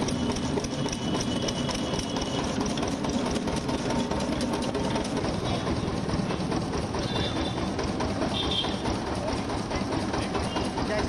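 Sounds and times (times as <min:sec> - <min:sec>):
rollers crushing sugarcane clatter: 0:00.0 - 0:11.0.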